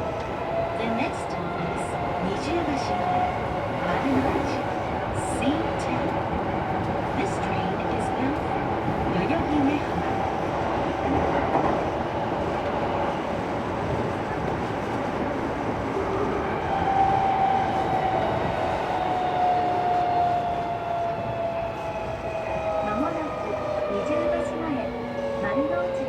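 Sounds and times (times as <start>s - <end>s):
rumble of wheels on rail: 0.0s - 26.0s.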